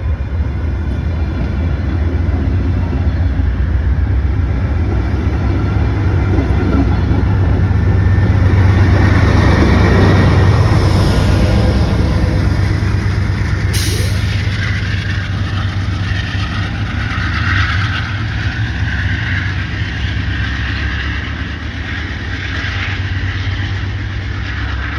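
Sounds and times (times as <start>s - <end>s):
diesel locomotive engine rumble: 0.0s - 24.9s.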